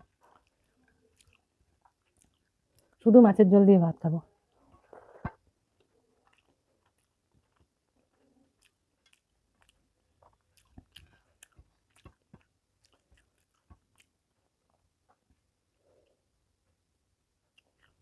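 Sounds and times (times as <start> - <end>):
faint chewing and mouth clicks: 0.0 - 3.1, 4.2 - 18.0.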